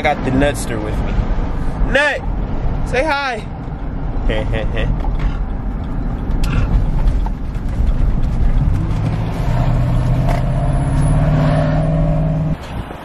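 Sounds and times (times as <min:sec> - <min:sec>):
low engine and road rumble: 0:00.0 - 0:13.0
steady engine hum: 0:00.0 - 0:13.0.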